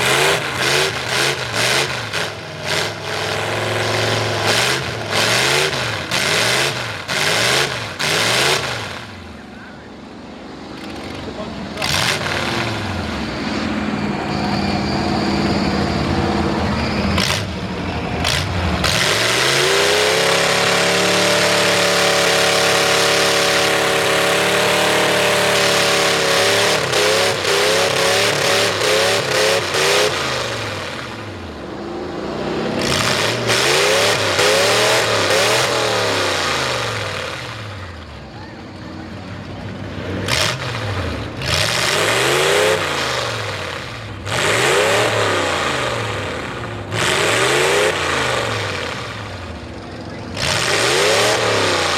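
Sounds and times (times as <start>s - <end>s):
truck engine revving hard: 0.0s - 51.9s.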